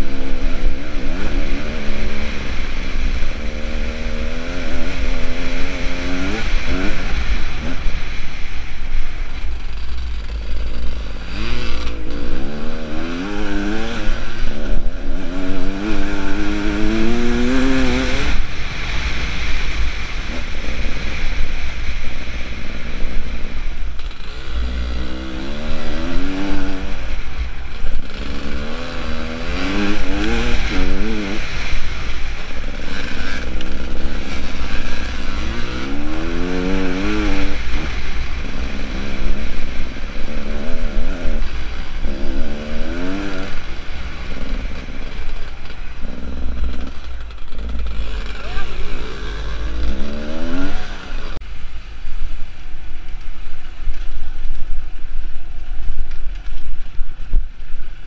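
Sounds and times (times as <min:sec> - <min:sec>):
motorcycle engine revving: 0:00.0 - 0:51.5
wind rumble on microphone: 0:00.0 - 0:58.0.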